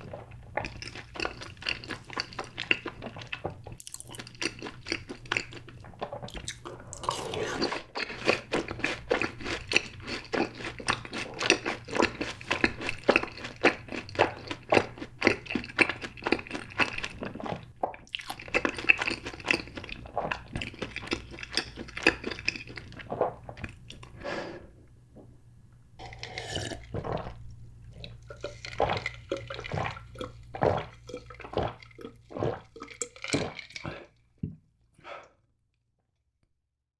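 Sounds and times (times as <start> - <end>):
chewing crunchy fried food: 0.0 - 24.2, 26.0 - 34.3.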